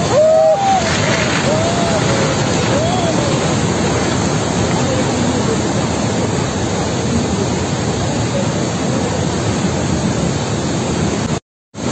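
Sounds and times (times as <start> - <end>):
river floodwater rushing: 0.0 - 11.9.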